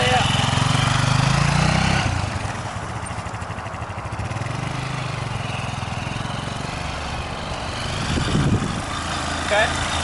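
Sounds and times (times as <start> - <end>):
dirt bike engine pulling away: 0.0 - 10.0.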